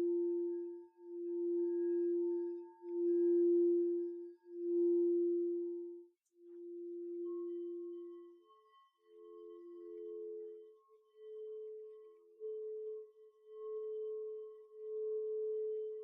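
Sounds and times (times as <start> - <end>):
crystal singing bowls: 0.0 - 16.0.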